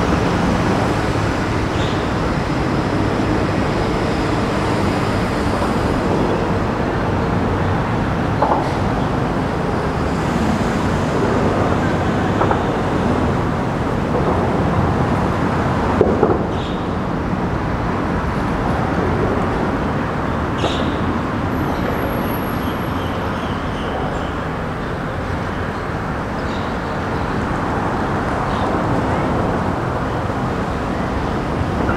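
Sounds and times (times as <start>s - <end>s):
distant road traffic rumble: 0.0s - 31.9s.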